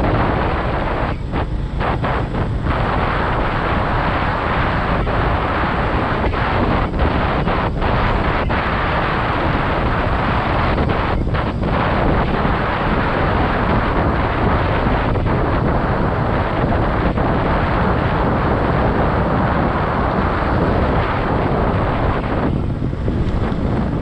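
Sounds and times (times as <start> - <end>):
motorcycle road noise: 0.0 - 24.0
wind rushing on microphone: 0.0 - 24.0.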